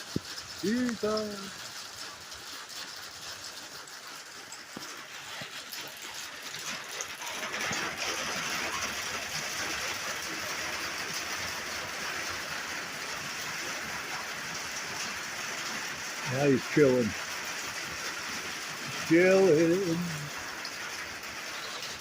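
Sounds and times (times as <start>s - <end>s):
heavy rain on a tin roof: 0.0s - 22.0s.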